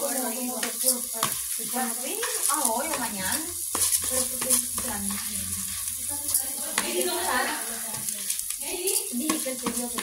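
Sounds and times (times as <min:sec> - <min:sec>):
food frying in oil: 0:00.0 - 0:10.0.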